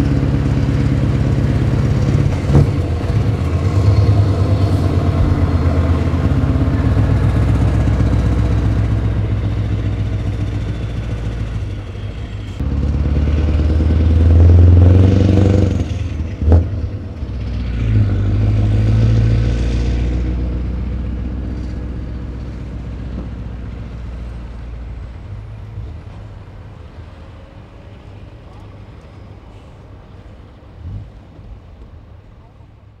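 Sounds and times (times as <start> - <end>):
diesel truck engine pulling away: 0.0 - 32.9.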